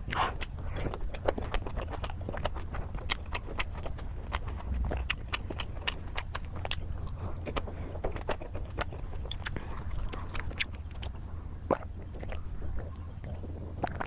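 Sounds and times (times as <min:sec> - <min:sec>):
chewing clicks and crunches: 0:00.0 - 0:14.0
steady low hum: 0:00.0 - 0:14.0.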